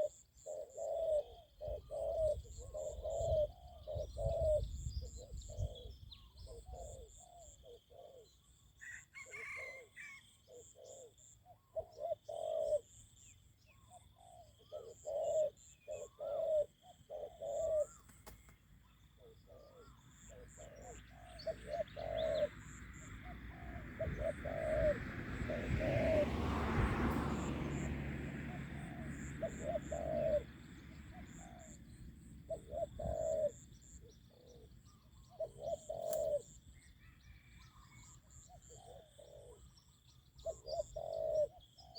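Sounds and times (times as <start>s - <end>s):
doves cooing: 0.0s - 13.1s, 13.9s - 41.9s.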